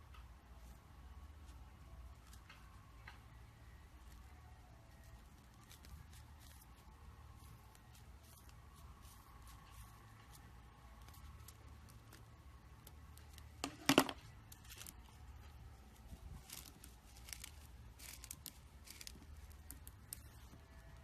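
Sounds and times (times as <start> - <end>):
slime clicking and crackling: 3.9 - 21.0.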